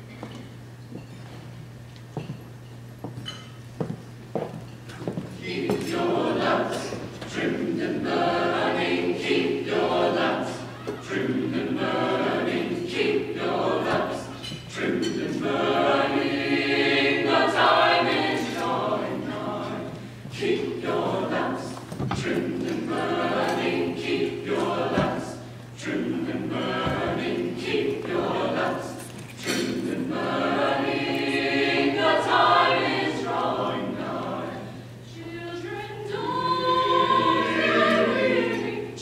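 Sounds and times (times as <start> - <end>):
steady low hum: 0.0 - 39.0
mixed choir singing: 5.3 - 39.0.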